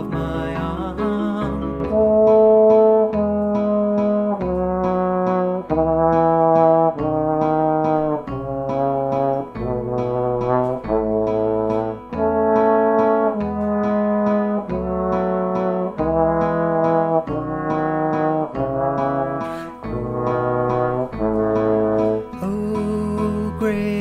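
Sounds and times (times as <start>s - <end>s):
trombones playing held chords: 0.0s - 24.0s.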